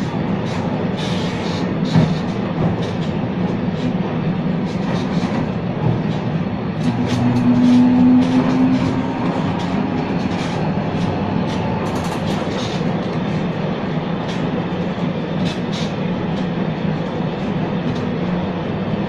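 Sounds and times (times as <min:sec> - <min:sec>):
tram rumble and hum: 0:00.0 - 0:19.0.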